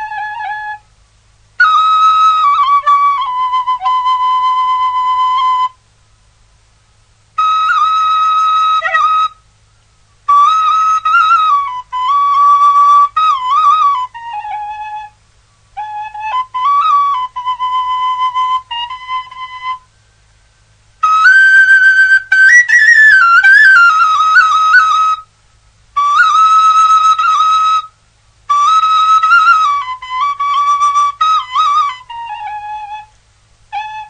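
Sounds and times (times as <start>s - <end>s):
solo flute melody: 0.0s - 5.8s, 7.3s - 25.3s, 25.9s - 34.0s.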